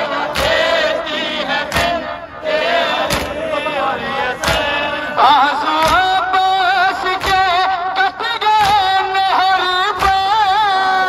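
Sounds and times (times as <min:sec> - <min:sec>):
crowd chanting: 0:00.0 - 0:11.0
men slapping their chests: 0:00.2 - 0:02.2, 0:02.9 - 0:05.0, 0:05.6 - 0:10.6
man singing over loudspeaker: 0:01.0 - 0:11.0.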